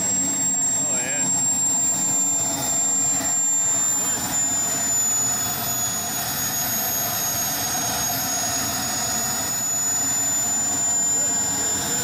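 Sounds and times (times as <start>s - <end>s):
jet turbine high whine: 0.0s - 12.0s.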